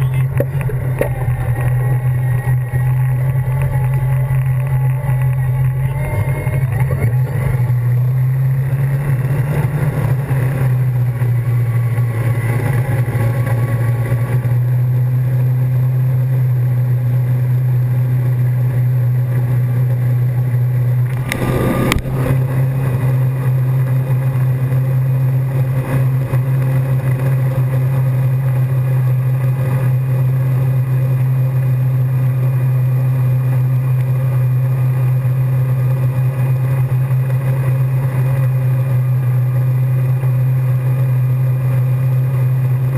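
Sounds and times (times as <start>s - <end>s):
boat engine drone: 0.0s - 42.9s.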